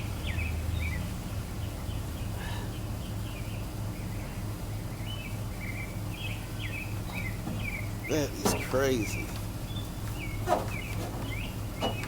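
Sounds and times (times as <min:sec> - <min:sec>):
small birds chirping: 0:00.0 - 0:12.0
steady low hum: 0:00.8 - 0:12.0.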